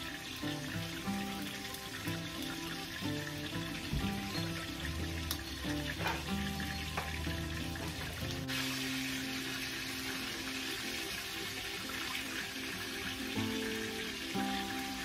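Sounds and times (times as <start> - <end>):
background music with held notes: 0.0 - 15.0
chicken sizzling in a skillet: 0.0 - 15.0.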